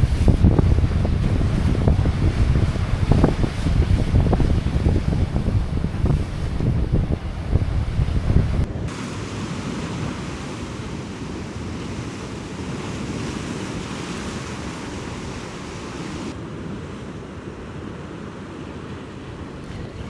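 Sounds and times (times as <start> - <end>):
wind buffeting microphone: 0.0 - 16.4, 19.4 - 20.0
surf on rocky shore: 0.0 - 20.0.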